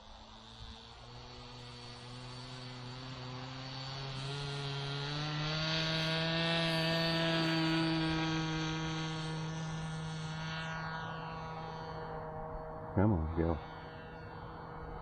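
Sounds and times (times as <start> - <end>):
model plane engine buzzing: 0.0 - 15.0.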